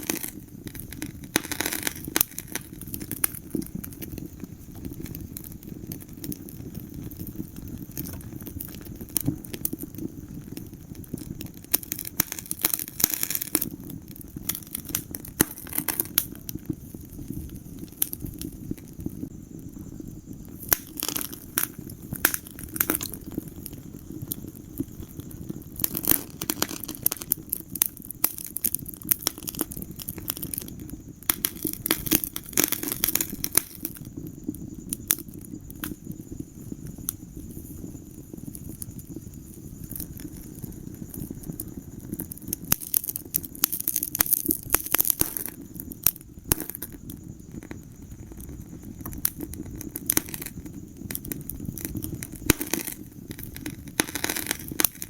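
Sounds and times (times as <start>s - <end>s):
fire crackling and popping: 0.0s - 55.0s
fire flames rumbling: 0.0s - 55.0s.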